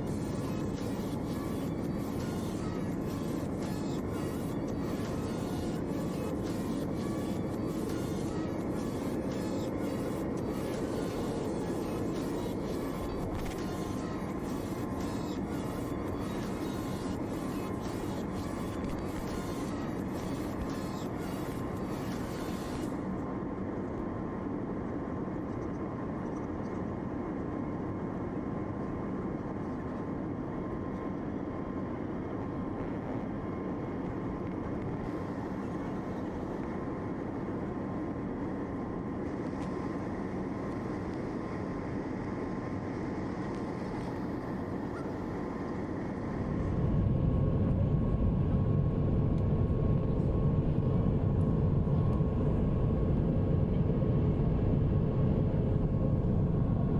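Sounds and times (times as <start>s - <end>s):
airliner cabin drone: 0.0s - 56.9s.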